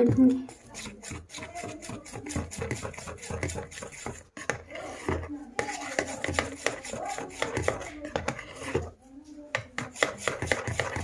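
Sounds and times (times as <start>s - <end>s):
spoon stirring batter in glass bowl: 0.0s - 11.0s.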